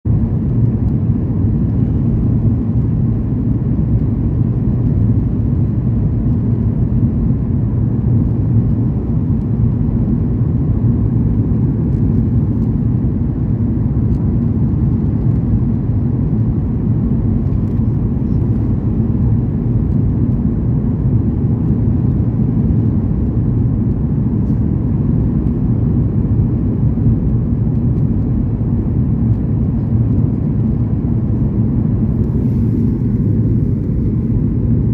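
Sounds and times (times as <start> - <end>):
airliner cabin engine rumble: 0.1 - 34.9.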